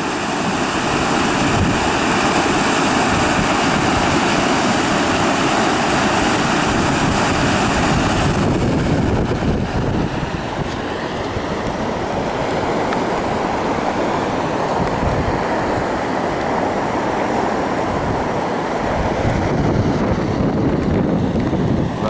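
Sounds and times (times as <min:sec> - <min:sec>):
fast-flowing river rushing: 0:00.0 - 0:22.0
wind buffeting microphone: 0:00.0 - 0:22.0.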